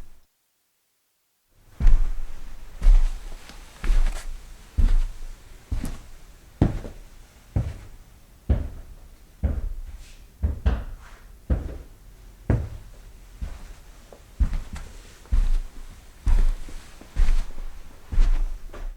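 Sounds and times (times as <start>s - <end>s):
footsteps walking: 1.8s - 18.9s.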